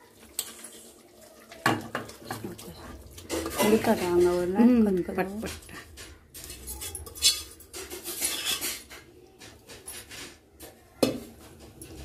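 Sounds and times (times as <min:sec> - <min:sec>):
spoon scraping cooking pot: 0:01.7 - 0:12.0.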